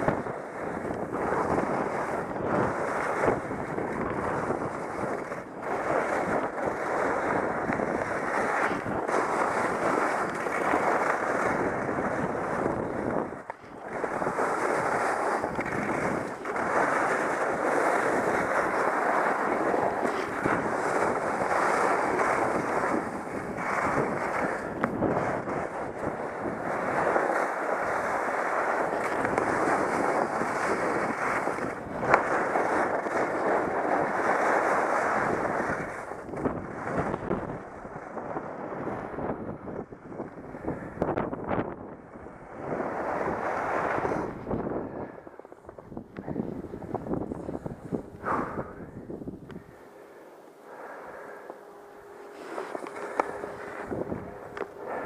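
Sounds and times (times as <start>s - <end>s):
skis scraping over snow: 0.0s - 48.8s, 49.4s - 55.0s
wind over microphone: 0.0s - 55.0s.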